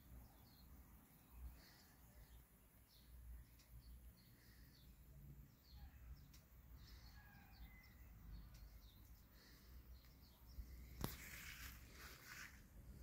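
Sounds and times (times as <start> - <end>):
faint high chirps: 0.0 - 11.8.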